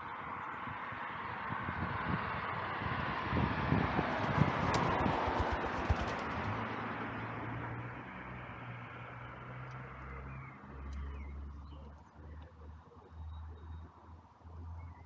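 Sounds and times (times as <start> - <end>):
passing road traffic: 0.0 - 15.0
low engine hum: 1.8 - 15.0.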